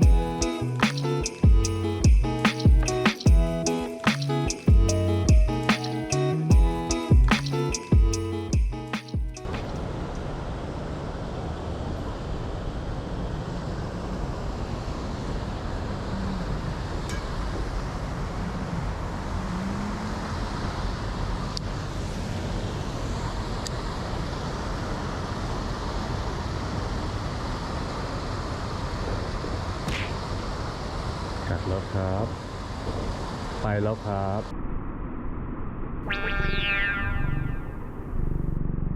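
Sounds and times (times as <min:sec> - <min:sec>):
city traffic hum: 0:00.0 - 0:34.7.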